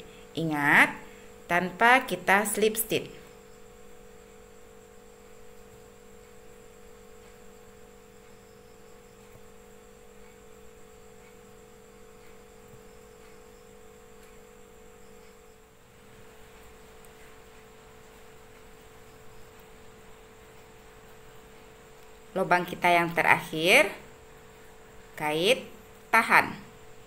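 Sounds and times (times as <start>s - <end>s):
background hiss: 0.0s - 27.0s
faint steady hum: 0.0s - 27.0s.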